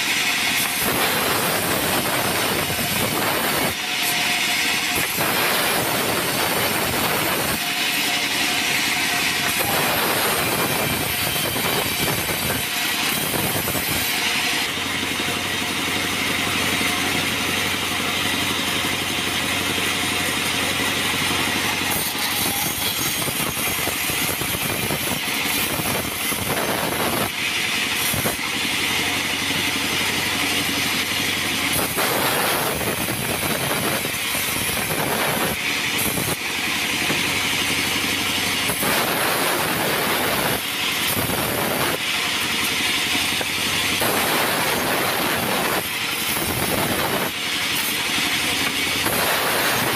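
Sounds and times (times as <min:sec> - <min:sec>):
saw blade cutting wood: 0:00.0 - 0:49.9
sawmill machine drone: 0:00.0 - 0:49.9.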